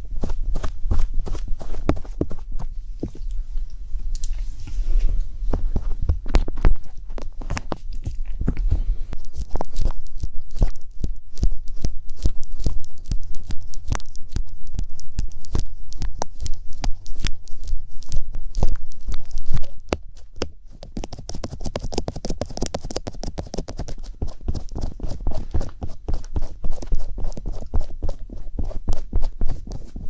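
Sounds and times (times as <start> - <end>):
rapid irregular clicks and taps: 5.5 - 30.0.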